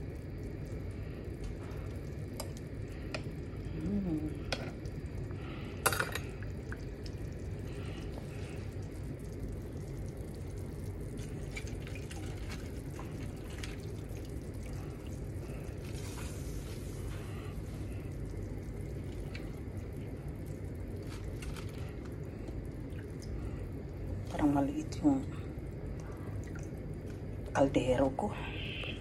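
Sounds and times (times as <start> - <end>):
pot bubbling: 0.0 - 29.0.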